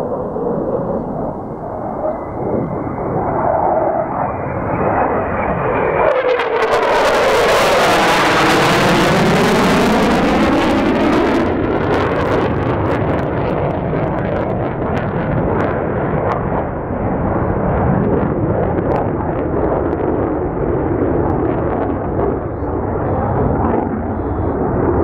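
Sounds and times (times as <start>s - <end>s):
deep rumble with sharp crackles: 0.0s - 25.0s
jet passing by: 0.0s - 25.0s.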